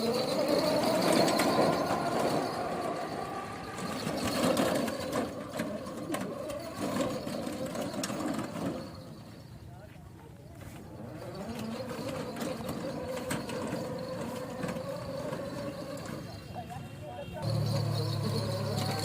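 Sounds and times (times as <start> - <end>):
toy tractor motor whirring: 0.0 - 9.6, 10.6 - 16.8, 17.4 - 19.0.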